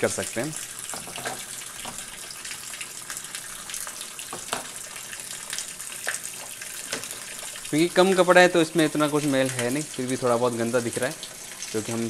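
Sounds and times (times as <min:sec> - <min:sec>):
water running from a hose: 0:00.0 - 0:12.0.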